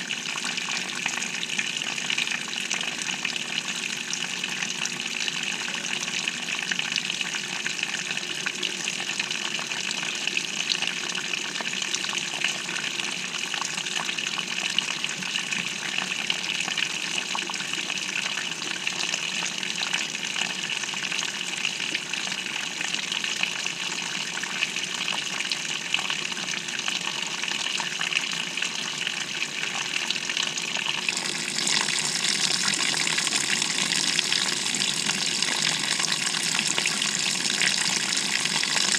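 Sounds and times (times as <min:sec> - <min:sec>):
water gushing into washing machine: 0:00.0 - 0:38.9.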